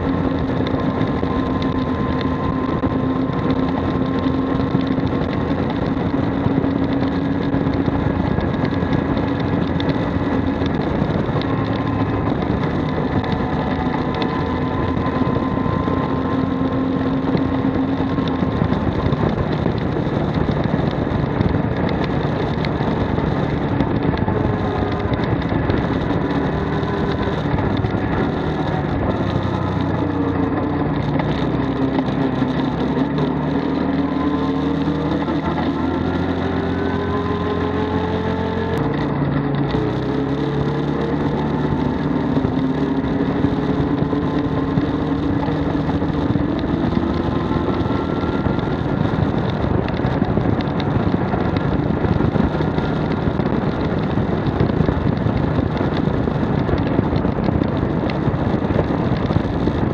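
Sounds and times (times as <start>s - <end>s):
v-twin engine running: 0.0s - 59.9s.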